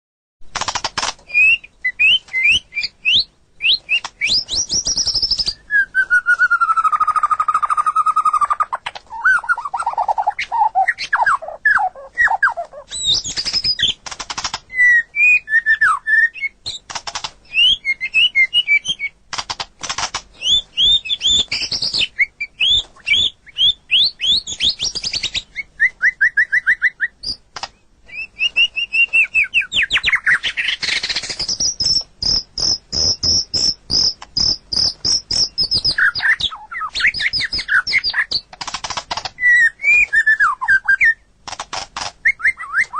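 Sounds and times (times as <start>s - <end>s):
bird singing varied song: 0.8s - 19.3s, 20.3s - 41.3s, 42.2s - 42.9s.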